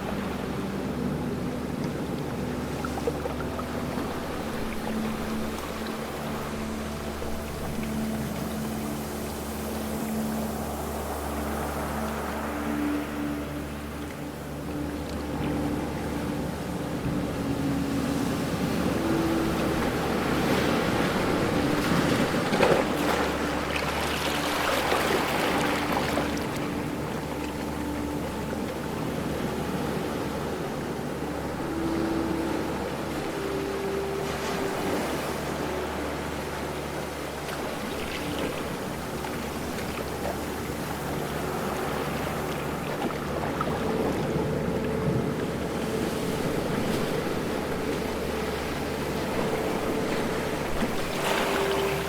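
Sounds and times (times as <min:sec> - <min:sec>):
ocean waves breaking: 0:00.0 - 0:52.0.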